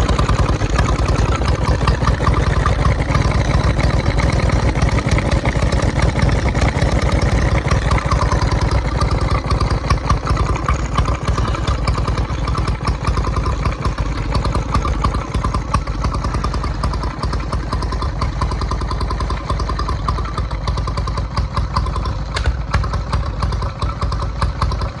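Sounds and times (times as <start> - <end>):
oil engine clattering: 0.0 - 25.0.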